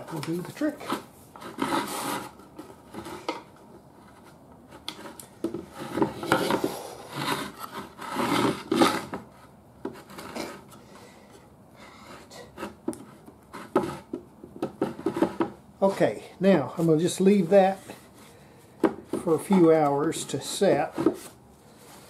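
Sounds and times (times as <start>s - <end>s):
cord scraping on wood: 0.0s - 11.0s, 11.8s - 16.1s, 16.7s - 22.0s.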